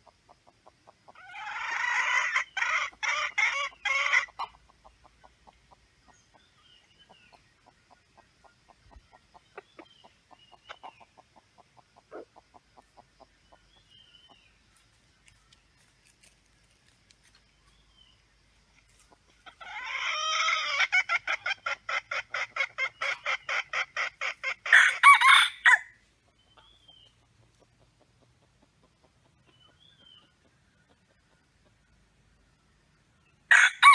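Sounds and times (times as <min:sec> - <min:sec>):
junglefowl clucking and cackling: 0:00.0 - 0:14.5, 0:19.0 - 0:32.1, 0:33.5 - 0:33.9.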